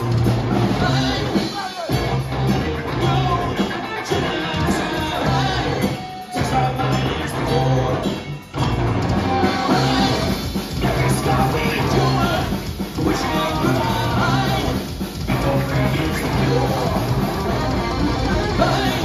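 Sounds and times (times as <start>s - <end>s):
live rock band playing: 0.0s - 19.0s
person singing: 0.7s - 8.3s, 9.3s - 19.0s.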